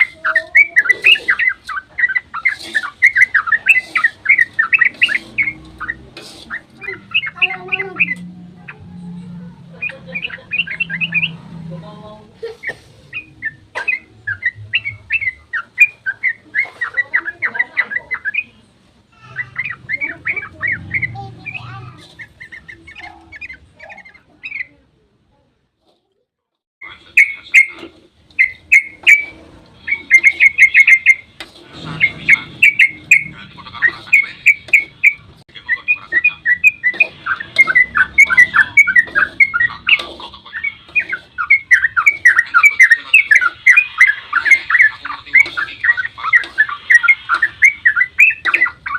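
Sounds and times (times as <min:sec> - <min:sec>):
bulbuls singing: 0:00.0 - 0:24.9, 0:26.8 - 0:48.9.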